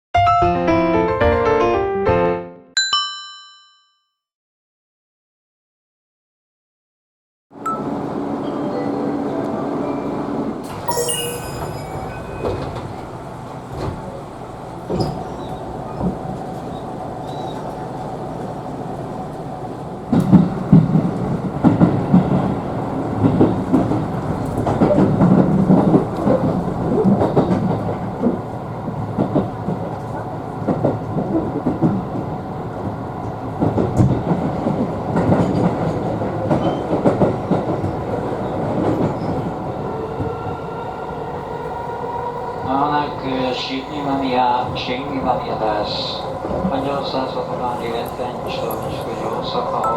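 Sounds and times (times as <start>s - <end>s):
train rumble inside carriage: 7.6s - 49.9s.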